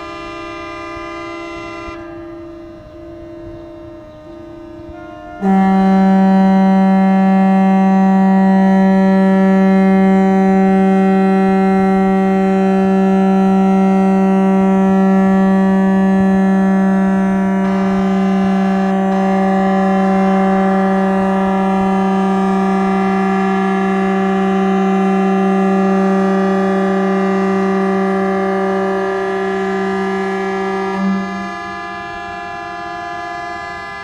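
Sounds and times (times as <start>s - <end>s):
boat horns blasting together: 0.0s - 34.0s.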